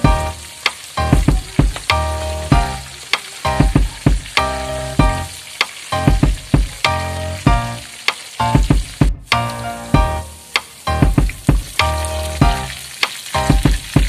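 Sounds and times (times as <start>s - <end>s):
potatoes sizzling in oil: 0.0s - 14.0s.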